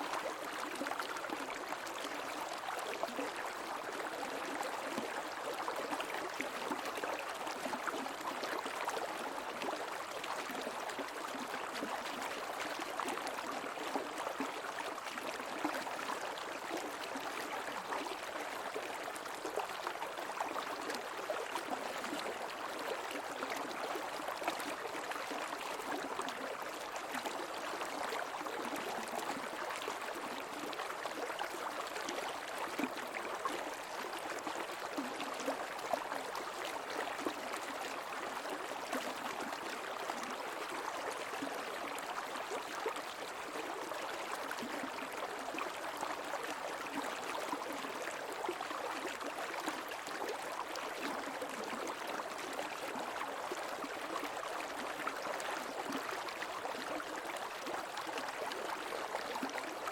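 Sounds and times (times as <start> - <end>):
creek water babbling: 0.0 - 59.9.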